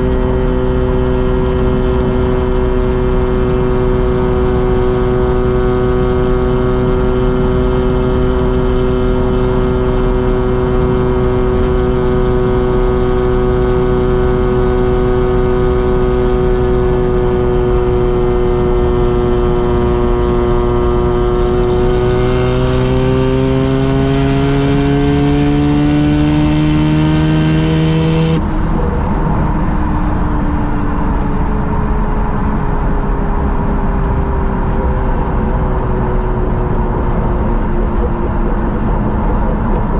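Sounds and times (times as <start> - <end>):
rotary engine and exhaust: 0.0 - 39.9.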